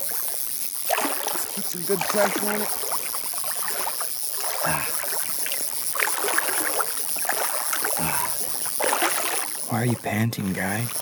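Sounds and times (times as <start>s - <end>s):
water sloshing and splashing: 0.9s - 9.8s.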